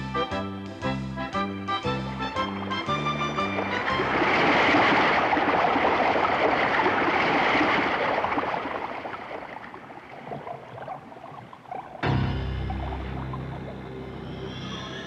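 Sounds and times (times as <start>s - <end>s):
underwater rushing water: 2.2s - 15.0s.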